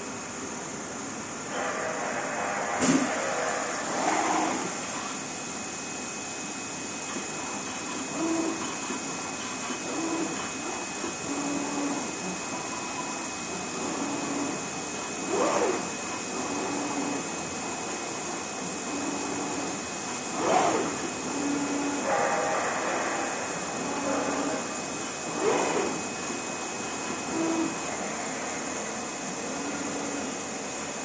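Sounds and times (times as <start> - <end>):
machine whine: 0.0 - 31.0.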